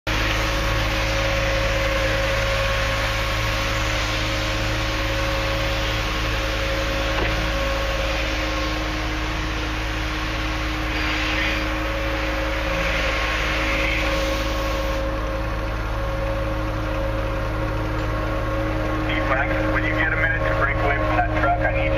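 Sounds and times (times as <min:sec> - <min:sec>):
engine humming: 0:00.1 - 0:21.9.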